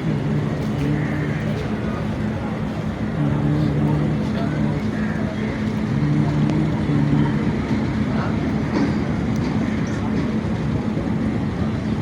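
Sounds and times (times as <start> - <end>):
train running with low hum: 0.0 - 12.0.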